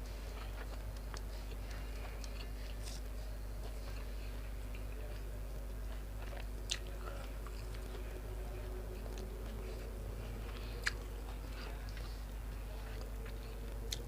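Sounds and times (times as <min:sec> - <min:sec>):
steady low hum: 0:00.0 - 0:14.0
person chewing: 0:00.3 - 0:14.0.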